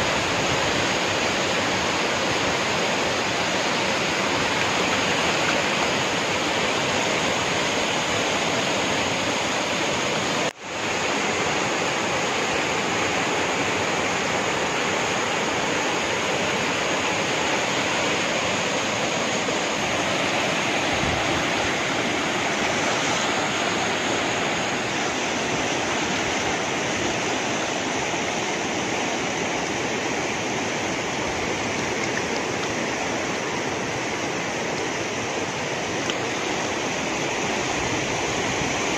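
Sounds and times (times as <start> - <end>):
water gushing into reservoir: 0.0 - 38.9.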